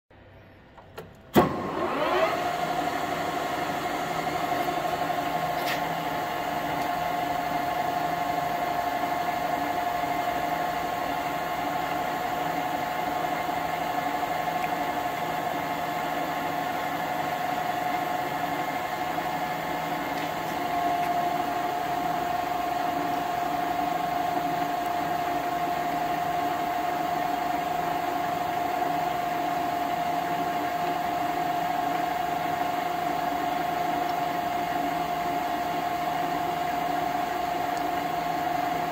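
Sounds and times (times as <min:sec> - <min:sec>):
lathe running: 0:01.4 - 0:38.9.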